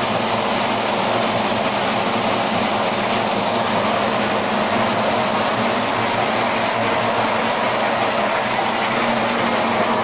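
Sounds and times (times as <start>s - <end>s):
log debarker machine running: 0.0s - 10.0s.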